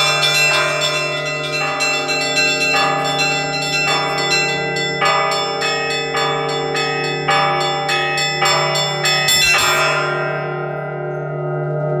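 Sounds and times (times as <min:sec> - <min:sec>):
large deep bell humming: 0:00.0 - 0:12.0
small church bells pealing: 0:00.0 - 0:12.0.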